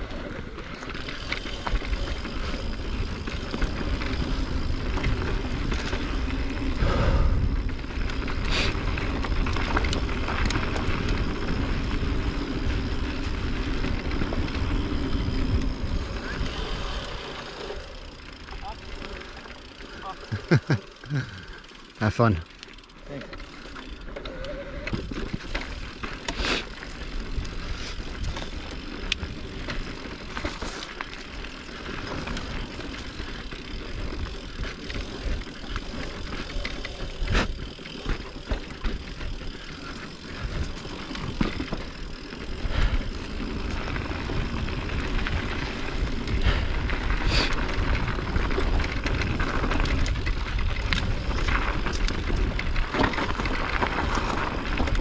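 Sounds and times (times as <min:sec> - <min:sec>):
bike clicks and knocks: 0:00.0 - 0:21.2, 0:21.8 - 0:55.0
bike tyres on dirt trail: 0:00.0 - 0:55.0.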